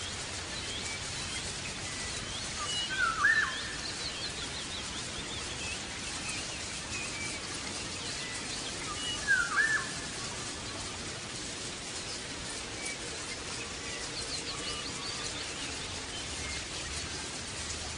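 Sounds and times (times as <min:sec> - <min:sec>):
background hiss: 0:00.0 - 0:17.9
birds chirping: 0:00.0 - 0:17.9.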